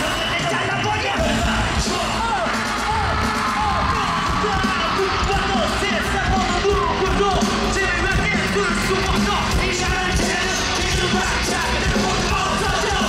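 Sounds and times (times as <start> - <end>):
fans screaming: 0.0 - 13.0.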